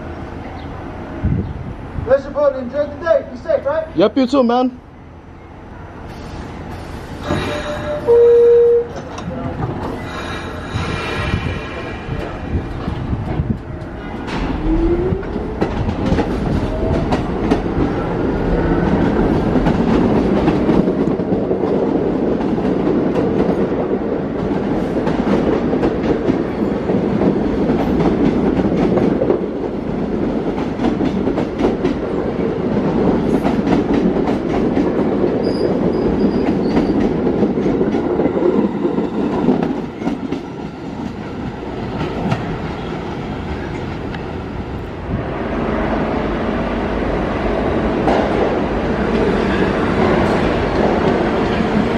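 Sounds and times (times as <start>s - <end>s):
subway train rumble: 0.0s - 51.9s.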